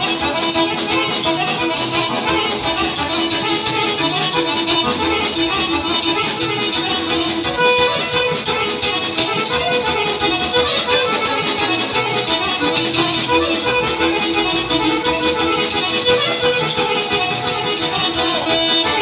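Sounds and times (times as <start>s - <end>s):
accordion: 0.0s - 19.0s
violin: 0.0s - 19.0s.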